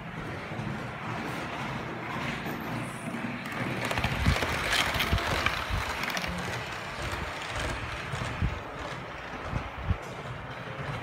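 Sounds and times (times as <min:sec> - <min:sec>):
model train running rumble: 0:00.0 - 0:11.0
model train wheels clicking: 0:00.0 - 0:11.0.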